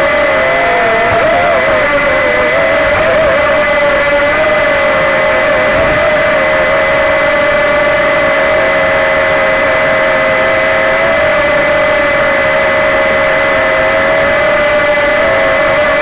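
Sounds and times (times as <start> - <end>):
quadcopter propellers whining: 0.0 - 16.0.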